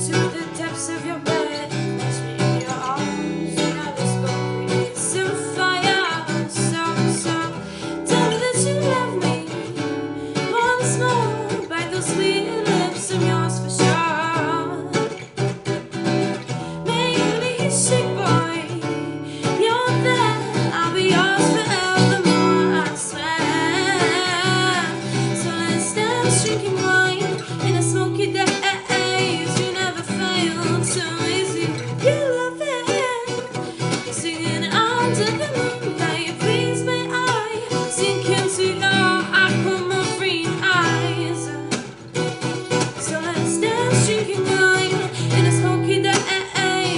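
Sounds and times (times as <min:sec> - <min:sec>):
acoustic guitar plucked and strummed: 0:00.0 - 0:46.9
person singing: 0:00.0 - 0:46.9.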